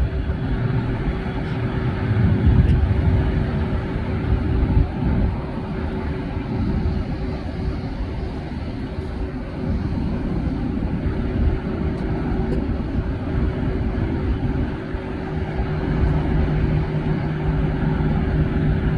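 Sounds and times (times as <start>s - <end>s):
low engine rumble: 0.0s - 18.9s.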